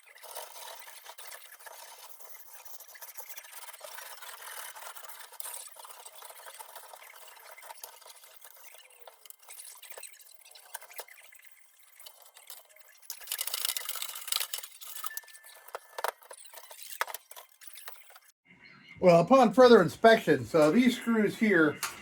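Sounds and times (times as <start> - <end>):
handling rubbing and rustling: 0.0 - 18.3.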